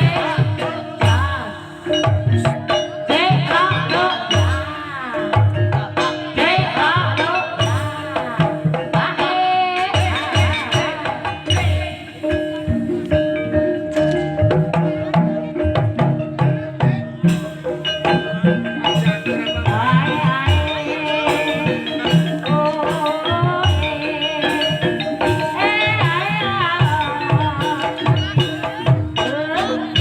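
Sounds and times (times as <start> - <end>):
person singing: 0.0 - 30.0
ringing metallophone tones: 0.0 - 30.0.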